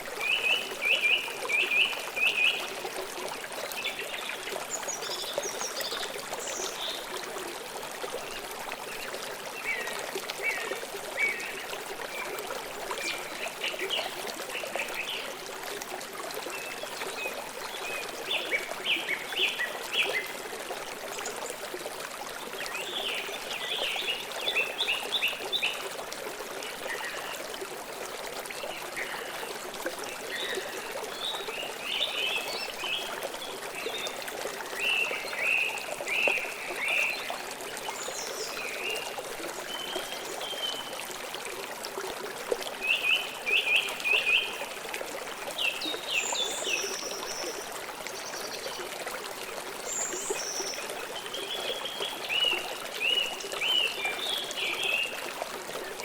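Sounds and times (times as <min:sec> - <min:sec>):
forest river flowing: 0:00.0 - 0:56.0.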